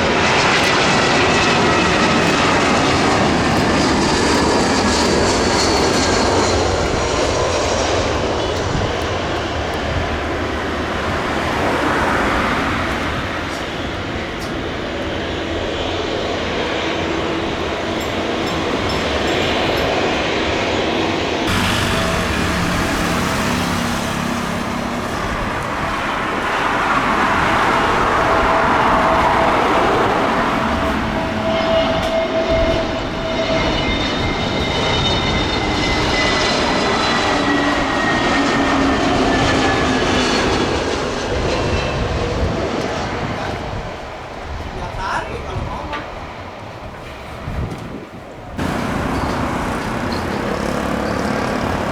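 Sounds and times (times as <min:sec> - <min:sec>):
jet engines of passing airliner: 0:00.0 - 0:51.9.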